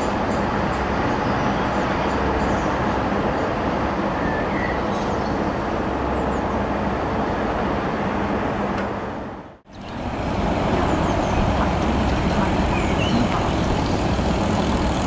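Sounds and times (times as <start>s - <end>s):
helicopter turbine and rotor noise: 0.0s - 15.0s.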